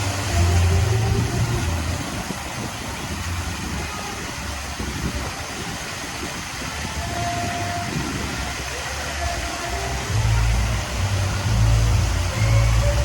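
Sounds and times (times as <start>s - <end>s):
fountain jets spraying: 0.0s - 13.0s.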